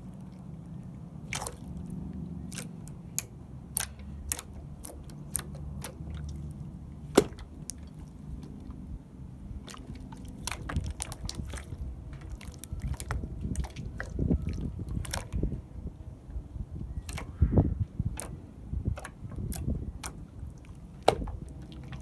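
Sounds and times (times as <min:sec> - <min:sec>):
low squelching rumble: 0:00.0 - 0:22.0.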